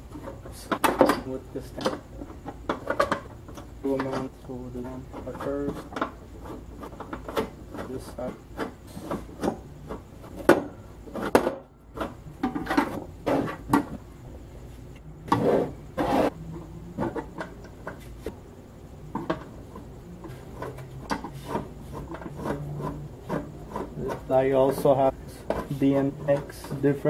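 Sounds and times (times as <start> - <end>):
hardware scraping: 0.0 - 27.0
hardware clicks and knocks: 0.1 - 14.0, 19.0 - 27.0.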